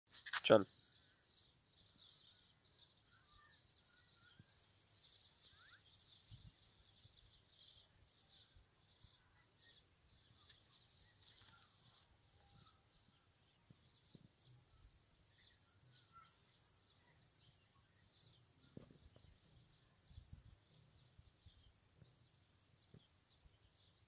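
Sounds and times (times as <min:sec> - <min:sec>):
bird chirps: 0:00.2 - 0:24.0.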